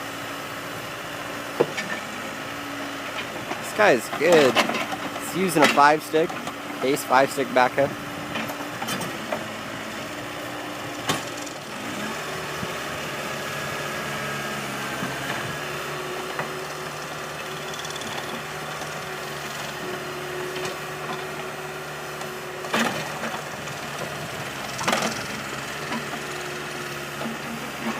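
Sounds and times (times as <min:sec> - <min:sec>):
backhoe engine running: 0:00.0 - 0:27.9.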